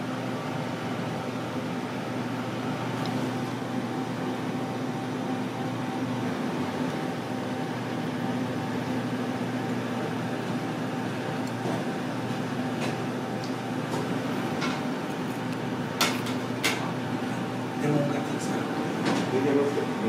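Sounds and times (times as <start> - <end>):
ventilation hum: 0.0 - 20.0.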